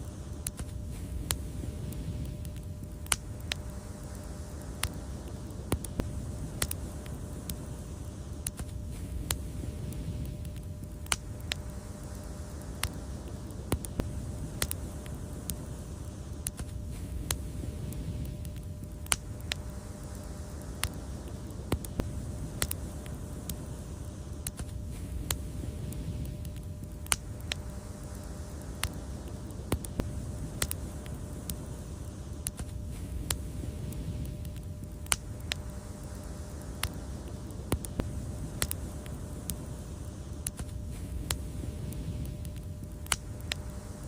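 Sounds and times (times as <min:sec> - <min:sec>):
low rumble of burning: 0:00.0 - 0:44.0
wood fire crackling: 0:00.0 - 0:44.0.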